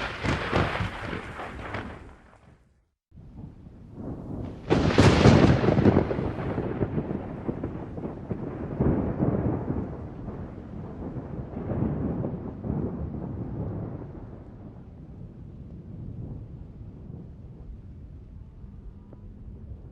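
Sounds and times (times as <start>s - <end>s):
thunder crack and rumble: 0.0s - 2.6s, 3.2s - 19.9s.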